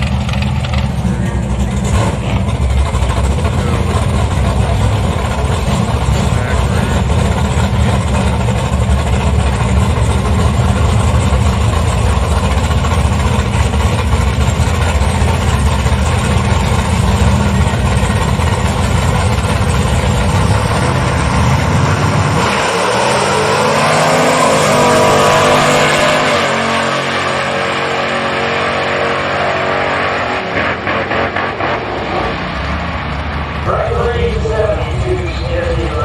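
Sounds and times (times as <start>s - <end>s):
drag racing engine rumbling: 0.0s - 36.0s.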